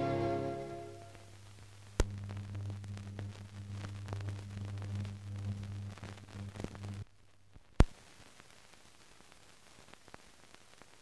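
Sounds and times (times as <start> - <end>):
faint hiss and crackle: 0.0 - 11.0
low hum with crackle: 0.0 - 11.0.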